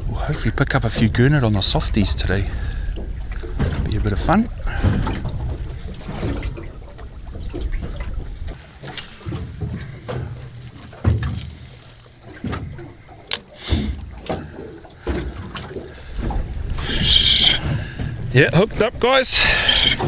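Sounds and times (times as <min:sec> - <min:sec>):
wind rumble on microphone: 0:00.0 - 0:12.8, 0:15.2 - 0:20.0
waves lapping against boat hull: 0:00.0 - 0:20.0.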